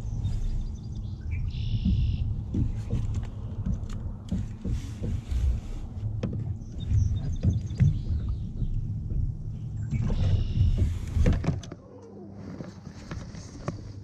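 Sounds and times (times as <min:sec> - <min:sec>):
wind rumble on microphone: 0:00.0 - 0:11.8
handling knocks and rustles: 0:01.8 - 0:14.0.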